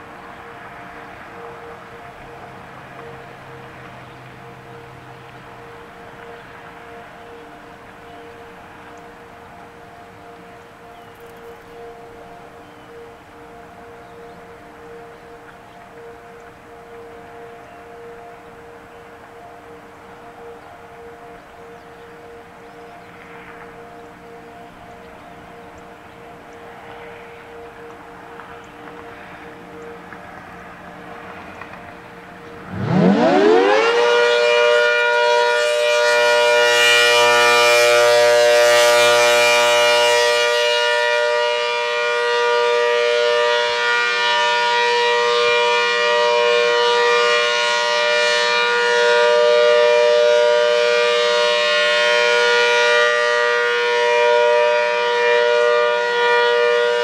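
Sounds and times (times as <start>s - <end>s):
distant siren steady tone: 0.0s - 57.0s
tornado siren winding up: 0.0s - 57.0s.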